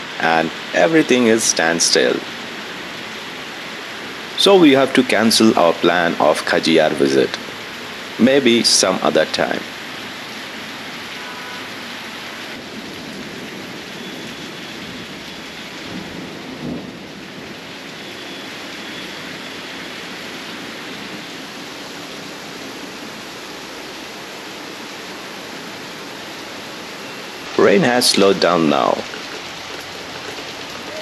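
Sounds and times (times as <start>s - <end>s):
heavy rain on roofs: 0.0s - 31.0s.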